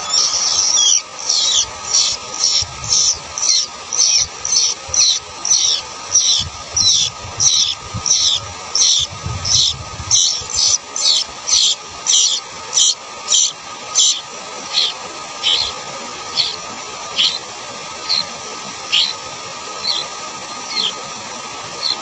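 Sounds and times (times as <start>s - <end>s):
nestlings begging squeaky notes: 0.0s - 19.2s, 19.8s - 21.0s, 21.8s - 22.0s.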